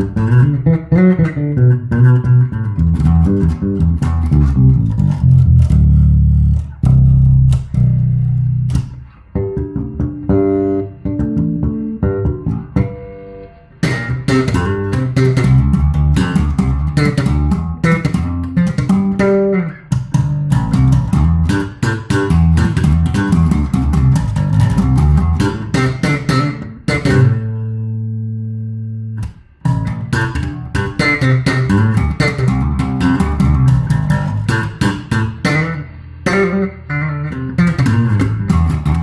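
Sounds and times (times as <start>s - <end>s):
electric bass guitar: 0.0s - 39.0s.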